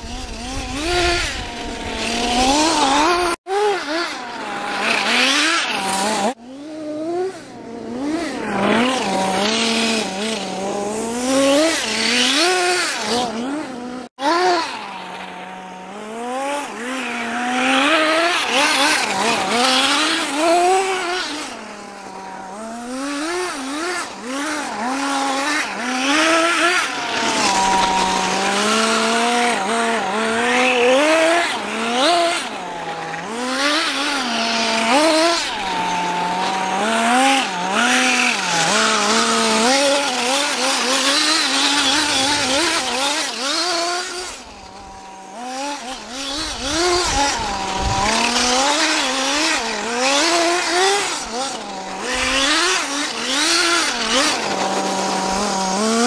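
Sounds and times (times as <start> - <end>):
nitro engine revving: 0.0 - 56.0.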